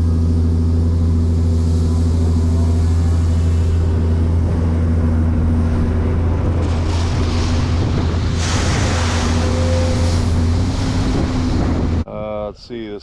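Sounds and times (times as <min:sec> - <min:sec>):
rushing noise: 0:00.0 - 0:12.0
diesel engine running steadily: 0:00.0 - 0:12.1.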